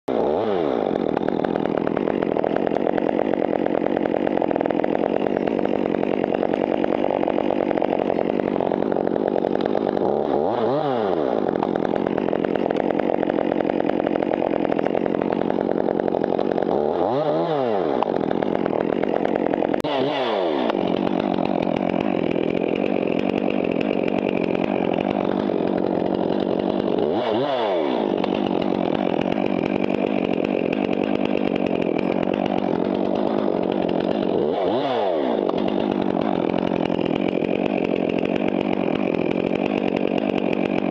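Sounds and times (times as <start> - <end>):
chainsaw running: 0.1 - 40.9.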